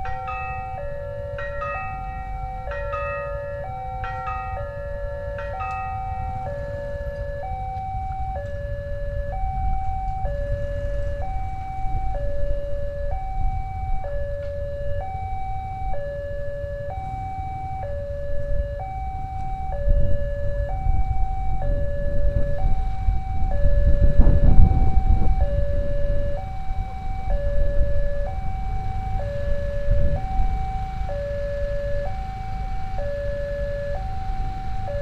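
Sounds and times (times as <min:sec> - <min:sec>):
two-tone crossing alarm: 0:00.0 - 0:35.0.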